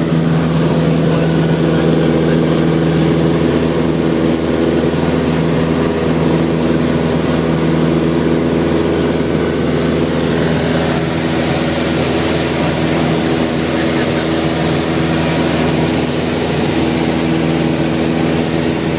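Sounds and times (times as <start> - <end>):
light aircraft engine droning: 0.0 - 18.9.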